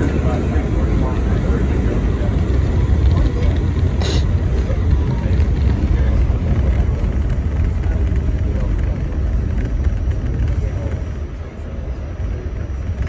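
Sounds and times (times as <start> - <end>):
subway train rumbling in tunnel: 0.0 - 13.0.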